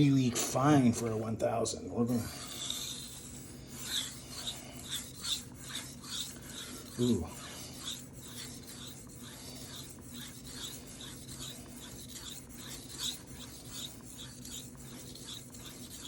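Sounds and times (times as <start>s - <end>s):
knife rasping on whetstone: 2.1s - 16.0s.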